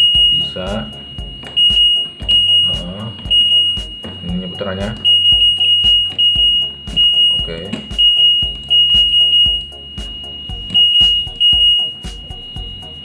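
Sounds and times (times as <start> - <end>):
high-pitched buzzer beeps: 0.0 - 13.0.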